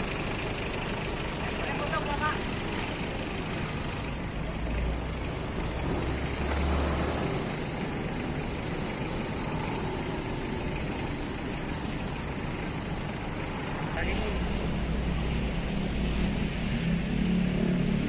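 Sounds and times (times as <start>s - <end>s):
diesel construction machinery rumbling: 0.0s - 18.0s.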